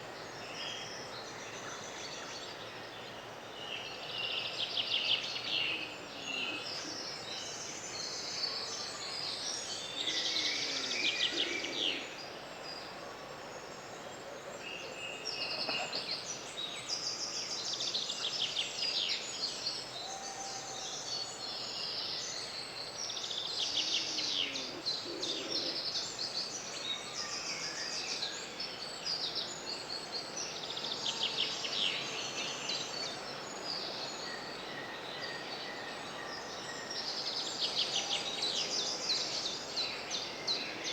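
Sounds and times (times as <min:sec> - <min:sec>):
faint background hiss: 0:00.0 - 0:40.9.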